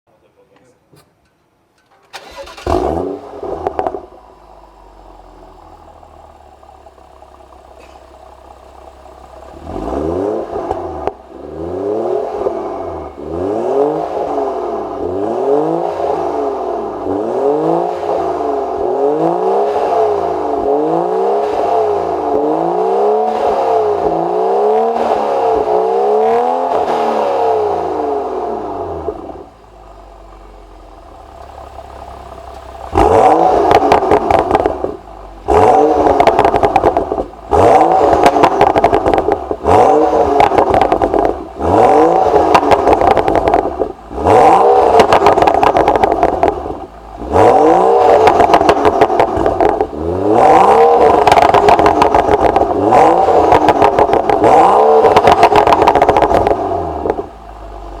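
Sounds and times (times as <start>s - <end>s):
car engine idling and revving: 2.2s - 58.0s.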